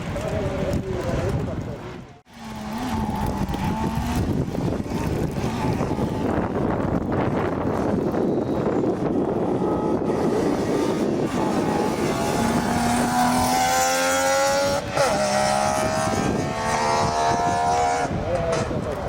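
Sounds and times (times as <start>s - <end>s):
rally car engine accelerating: 2.3s - 8.2s, 9.0s - 19.0s.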